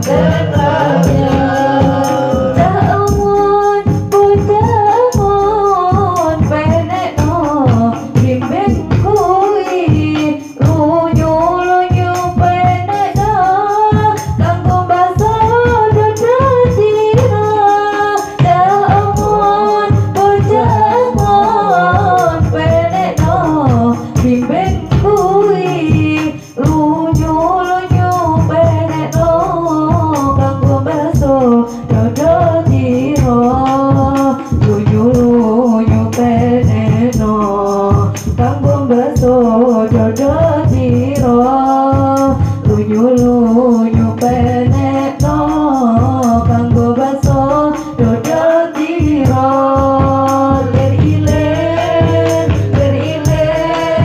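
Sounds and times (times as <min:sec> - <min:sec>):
frame drums and jingling percussion: 0:00.0 - 0:54.0
woman singing into microphone: 0:00.0 - 0:54.0.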